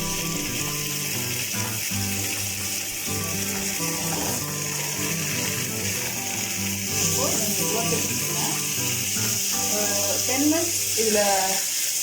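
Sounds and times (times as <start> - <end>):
background music: 0.0 - 11.6
chicken sizzling in oil: 0.0 - 12.0.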